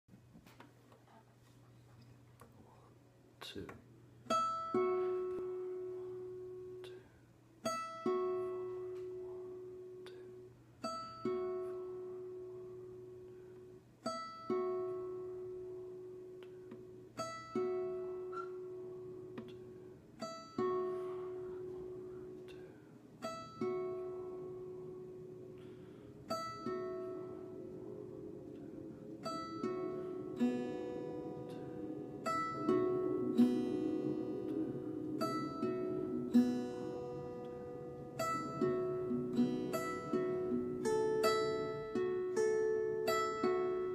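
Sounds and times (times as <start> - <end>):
fingerpicked acoustic guitar: 0.4 - 43.9.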